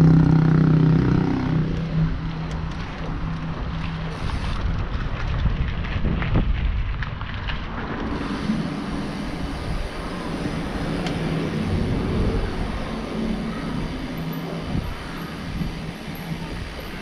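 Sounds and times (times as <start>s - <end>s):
bicycle rolling on concrete: 0.0s - 17.0s
wind rumble on microphone: 0.0s - 17.0s.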